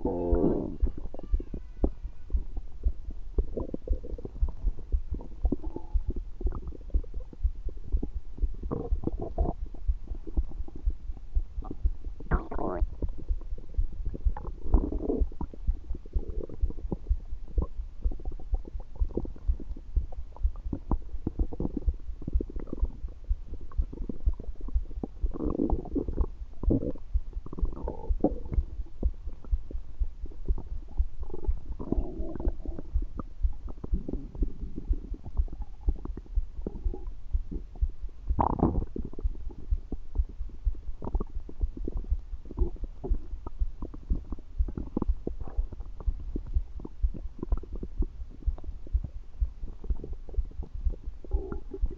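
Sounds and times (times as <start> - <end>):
stomach gurgling and rumbling: 0.0 - 51.9.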